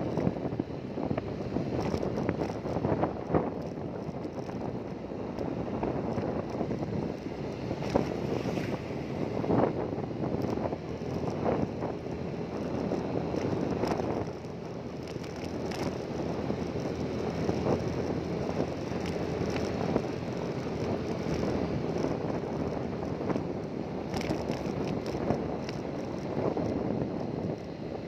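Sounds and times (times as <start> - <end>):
vehicle rumble: 0.0 - 28.0
wind buffeting microphone: 0.0 - 28.0.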